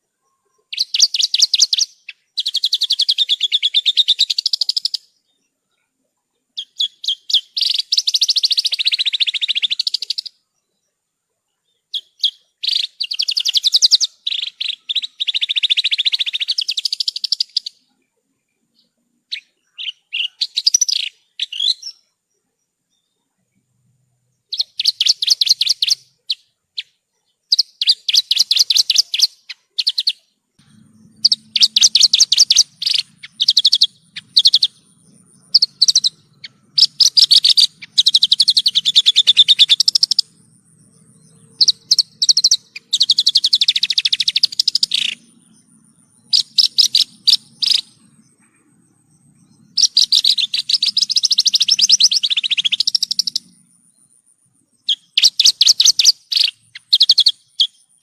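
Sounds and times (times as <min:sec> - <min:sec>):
bird singing trilled phrases: 0:00.0 - 0:58.0.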